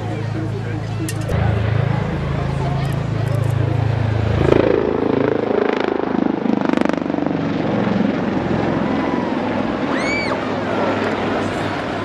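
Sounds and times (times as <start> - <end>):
helicopter flying past: 0.0 - 12.0.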